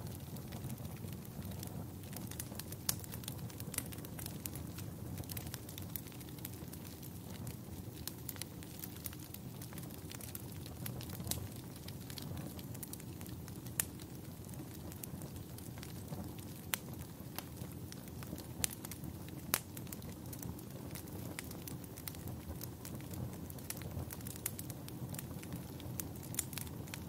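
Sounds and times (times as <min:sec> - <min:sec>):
fire crackles and pops: 0:00.0 - 0:27.0
fire rumble: 0:00.0 - 0:27.0.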